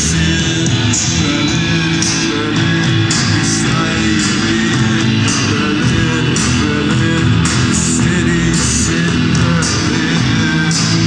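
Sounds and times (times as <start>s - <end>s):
live pop band playing: 0.0s - 11.0s
strummed electric guitar: 0.0s - 11.0s.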